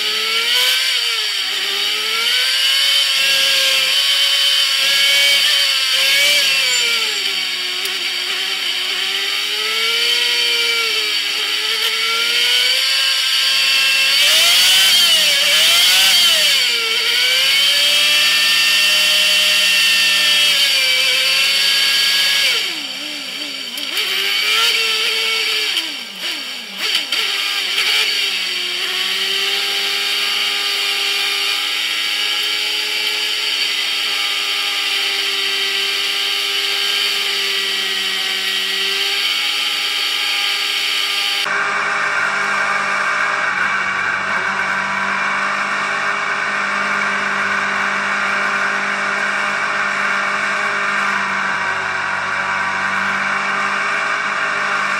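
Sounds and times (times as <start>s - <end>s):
race car engine buzzing: 0.0s - 54.9s.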